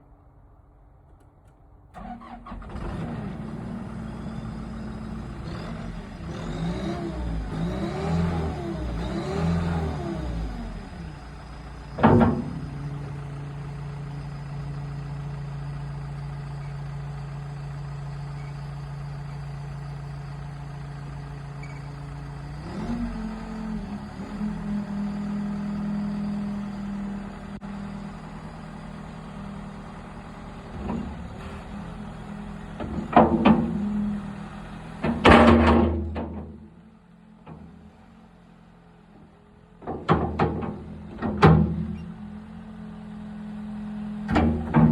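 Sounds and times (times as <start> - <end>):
diesel engine revving and idling: 2.0 - 44.9.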